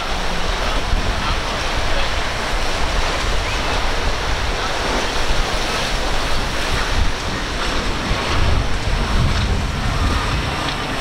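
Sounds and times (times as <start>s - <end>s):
boat outboards running past: 0.0s - 11.0s
wake rushing through water: 0.0s - 11.0s
wind buffeting microphone: 0.0s - 11.0s.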